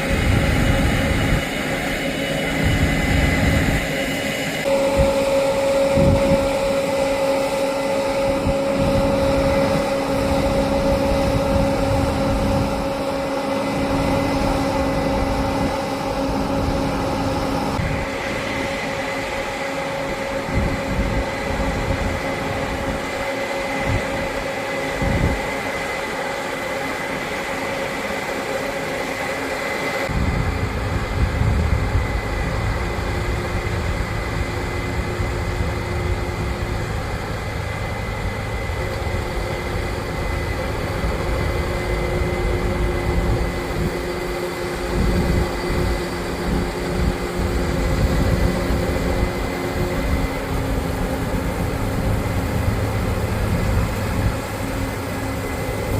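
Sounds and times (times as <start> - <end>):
harvest machinery drone: 0.0 - 55.9.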